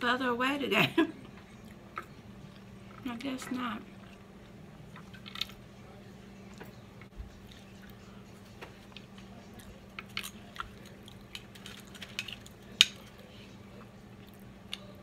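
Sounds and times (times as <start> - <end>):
chewing fried chicken: 1.2 - 15.0.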